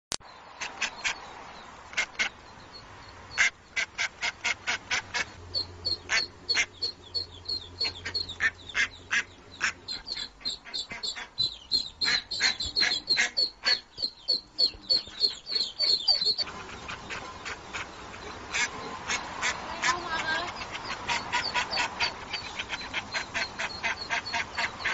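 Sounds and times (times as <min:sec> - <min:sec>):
duck quacking: 0:01.9 - 0:02.4, 0:03.3 - 0:24.9.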